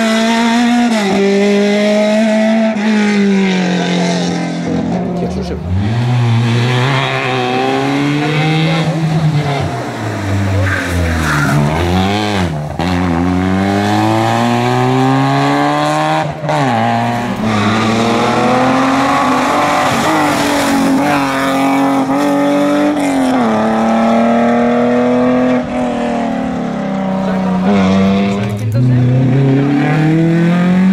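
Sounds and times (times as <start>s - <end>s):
car accelerating through upshifts: 0.0s - 30.9s
rally car engine revving: 0.0s - 30.9s.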